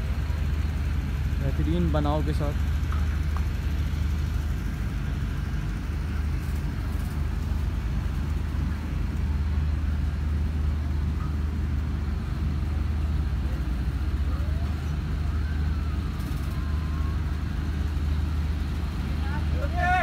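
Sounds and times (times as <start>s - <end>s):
low machine rumble: 0.0s - 20.0s.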